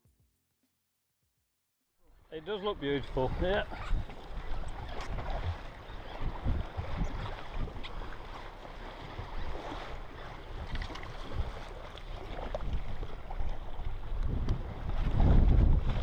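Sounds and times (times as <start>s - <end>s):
water splashing and lapping: 2.3s - 16.0s
wind buffeting microphone: 2.8s - 16.0s.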